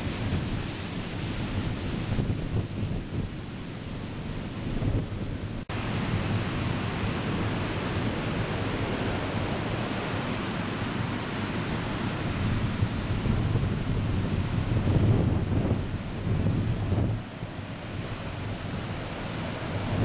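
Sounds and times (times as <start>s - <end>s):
heavy surf crashing on beach: 0.0s - 20.0s
wind buffeting microphone: 0.0s - 20.0s.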